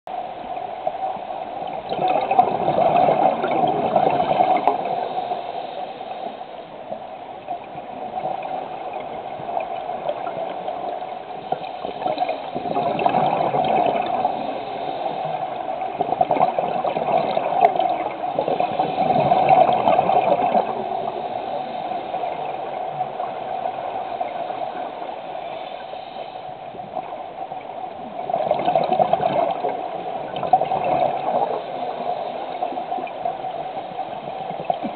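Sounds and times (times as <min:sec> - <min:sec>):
underwater bubbles gurgling: 0:00.1 - 0:34.9
water noise wash: 0:00.1 - 0:34.9.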